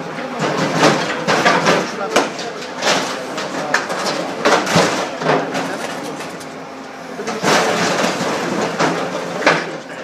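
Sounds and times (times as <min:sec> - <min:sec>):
heavy machine running: 0:00.0 - 0:10.0
scrap metal crunching and clanking: 0:00.2 - 0:06.6, 0:07.2 - 0:10.0.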